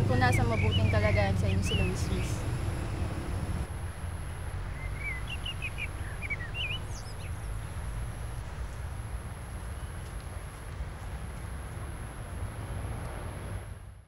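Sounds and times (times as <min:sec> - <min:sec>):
songbirds chirping: 0:00.0 - 0:11.9
faint high whine: 0:00.0 - 0:14.0
low outdoor rumble: 0:00.0 - 0:14.0.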